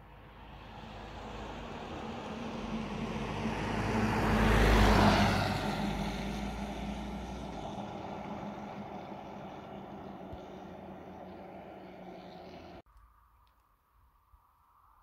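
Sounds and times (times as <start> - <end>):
vehicle passing by: 0.2 - 12.8.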